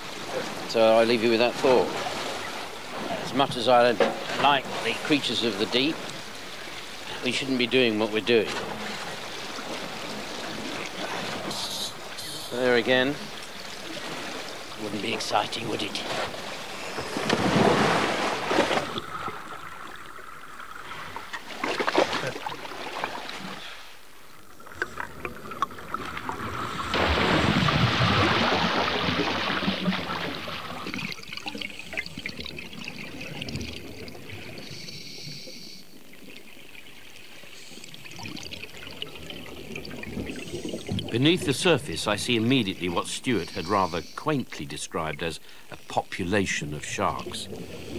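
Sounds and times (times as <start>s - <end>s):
rush of water and bubbles: 0.0s - 43.7s, 44.4s - 47.9s
underwater noise: 0.0s - 47.9s
water splashing: 0.0s - 47.9s.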